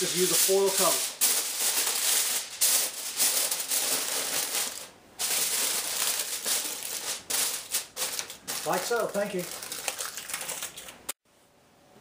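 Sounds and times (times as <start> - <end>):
aluminium foil crinkling: 0.0 - 11.2.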